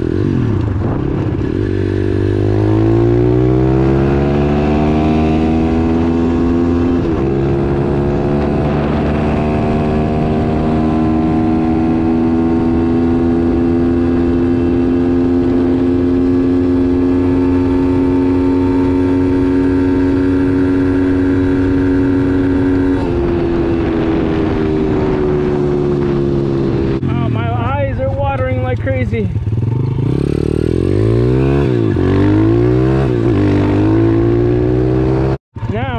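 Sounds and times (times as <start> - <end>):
motorbike engine at full throttle: 0.0 - 35.9
wind rush on microphone: 0.0 - 35.9.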